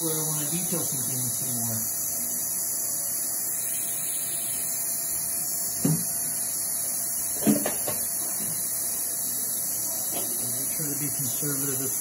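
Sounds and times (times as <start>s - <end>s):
dental suction hissing and humming: 0.0s - 12.0s.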